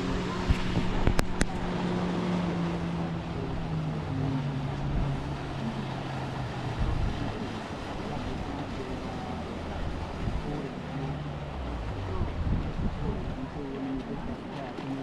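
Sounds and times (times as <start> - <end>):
outboard motor running: 0.0 - 15.0
water noise: 0.0 - 15.0
wind: 0.0 - 15.0.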